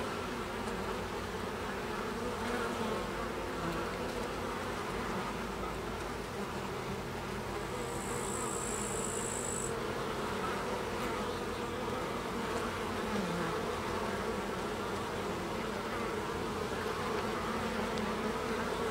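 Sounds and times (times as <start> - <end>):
bees buzzing: 0.0 - 18.9.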